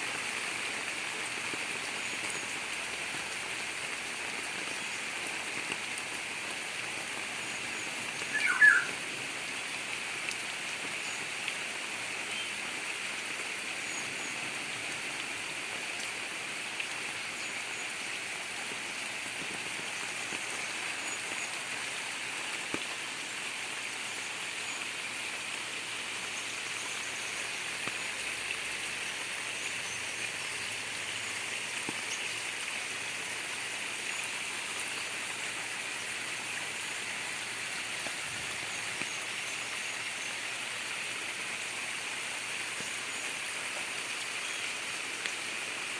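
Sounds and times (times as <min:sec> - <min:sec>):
gurgling runoff water: 0:00.0 - 0:45.9
heavy rain: 0:00.0 - 0:45.9.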